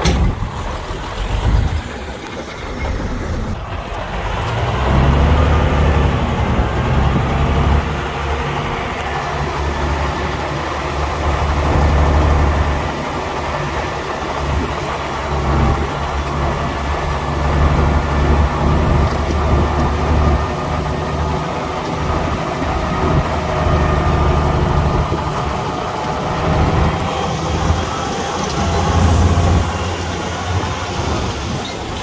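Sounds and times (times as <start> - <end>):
bulldozer diesel engine working: 0.0 - 32.0.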